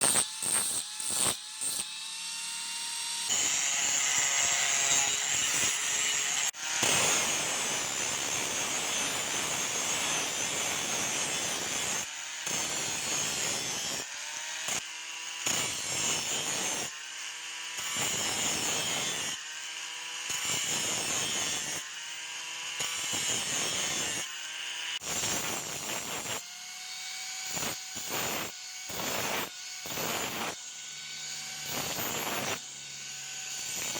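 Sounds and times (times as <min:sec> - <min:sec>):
grinder grinding metal blade: 0:00.0 - 0:33.9
grinder motor whine: 0:00.0 - 0:33.9.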